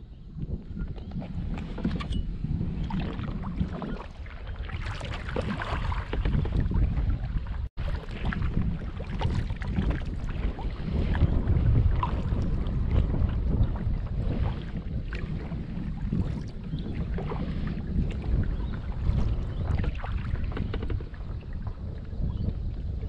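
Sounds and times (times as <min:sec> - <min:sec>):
wind buffeting microphone: 0:00.0 - 0:23.0
water splashing against kayak hull: 0:00.4 - 0:23.0.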